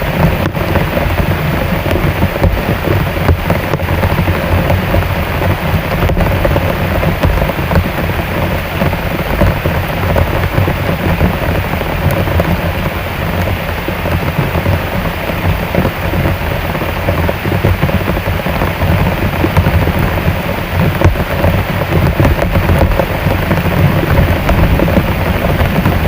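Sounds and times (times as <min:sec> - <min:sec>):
heavy rain downpour: 0:00.0 - 0:26.0.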